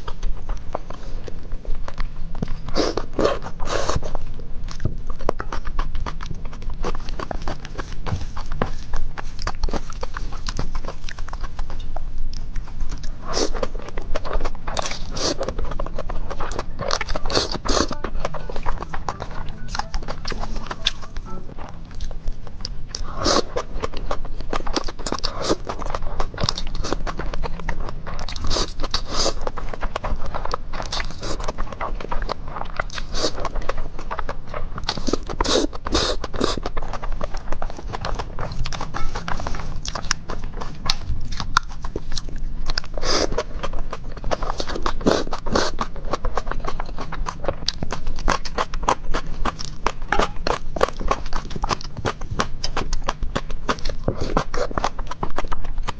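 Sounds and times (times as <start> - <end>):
person chewing and slurping: 0.0 - 55.9.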